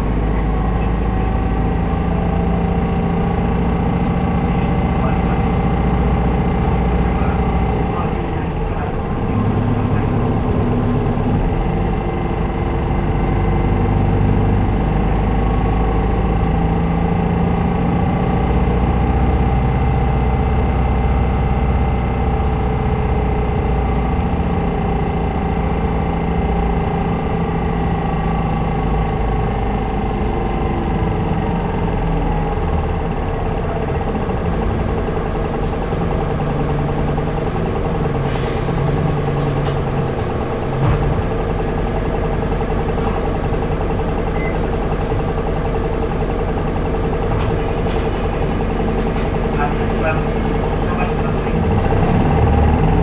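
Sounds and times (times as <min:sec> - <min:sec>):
bus engine hum with whine: 0:00.0 - 0:53.0.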